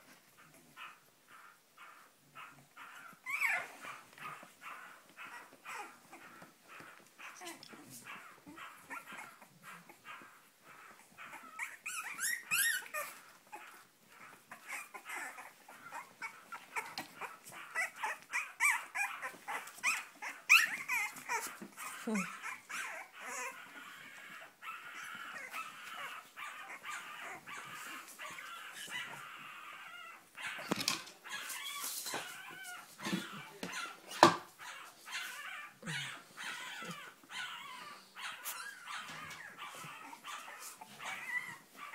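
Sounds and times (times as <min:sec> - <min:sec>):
puppies crying and yipping: 0:00.0 - 0:41.9.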